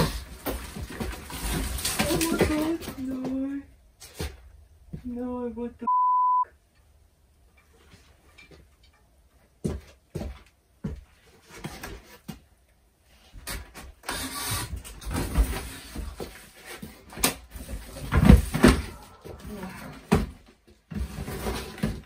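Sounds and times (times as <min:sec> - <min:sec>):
rustling and scraping of debris: 0:00.0 - 0:04.6, 0:07.4 - 0:10.0, 0:11.0 - 0:22.0.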